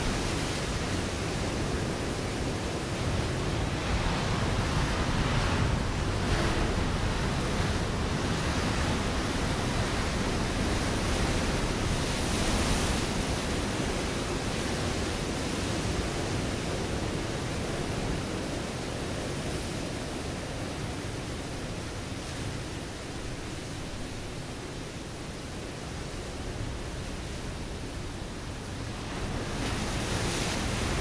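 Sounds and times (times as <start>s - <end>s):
ocean surf on rocky shore: 0.0s - 31.0s.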